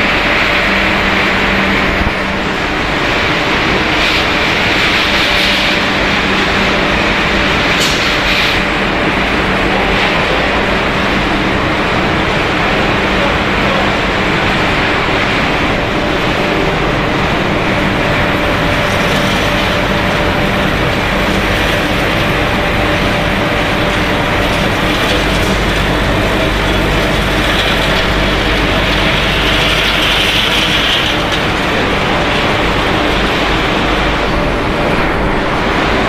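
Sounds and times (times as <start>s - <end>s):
production line machinery running: 0.0s - 36.0s.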